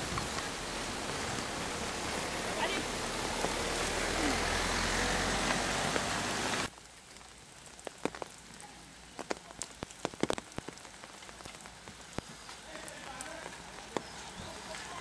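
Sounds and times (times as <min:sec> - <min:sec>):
rain hissing: 0:00.0 - 0:15.0
raindrops ticking close by: 0:00.0 - 0:15.0.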